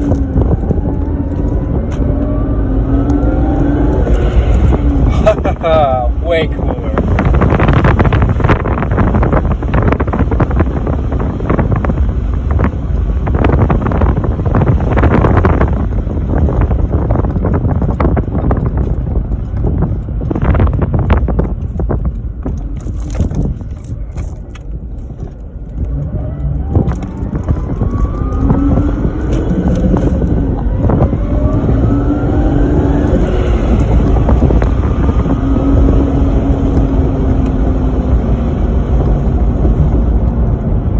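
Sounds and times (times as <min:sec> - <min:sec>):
road and engine noise: 0:00.0 - 0:40.9
supercharger whine: 0:00.0 - 0:40.9
wind buffeting microphone: 0:00.0 - 0:40.9.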